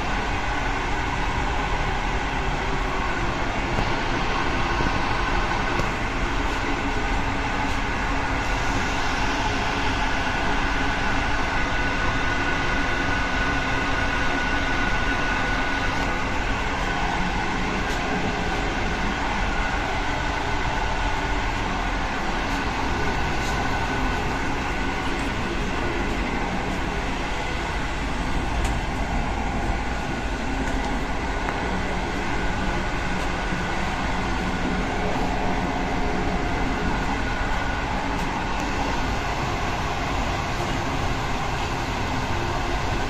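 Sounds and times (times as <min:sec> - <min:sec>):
steady high whine: 0:00.0 - 0:43.0
wheels rumbling on rails: 0:00.0 - 0:43.0.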